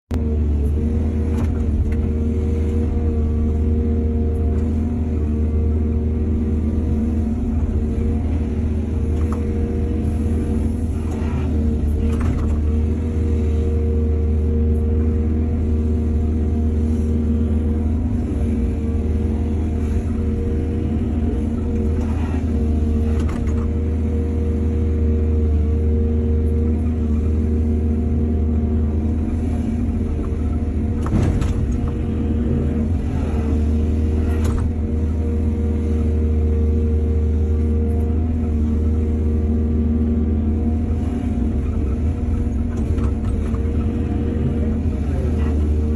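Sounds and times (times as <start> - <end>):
excavator diesel engine rumbling: 0.1 - 45.9.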